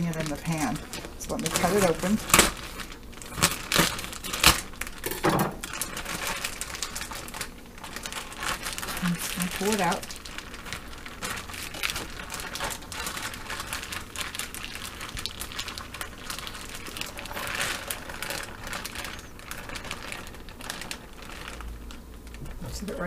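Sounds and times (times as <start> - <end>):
plastic bag crinkling: 0.0 - 23.0.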